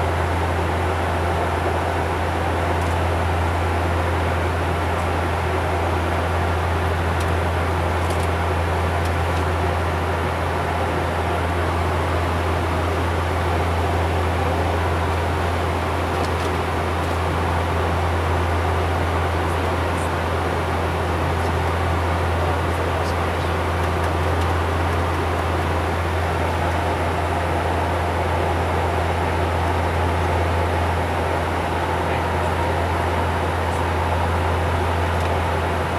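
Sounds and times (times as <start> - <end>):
turboprop cockpit drone: 0.0 - 35.9.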